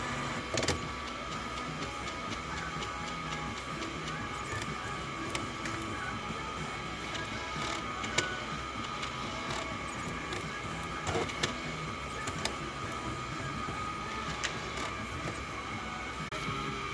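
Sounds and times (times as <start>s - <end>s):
printer clicks: 0.0s - 15.6s
printer whirring: 0.0s - 16.9s.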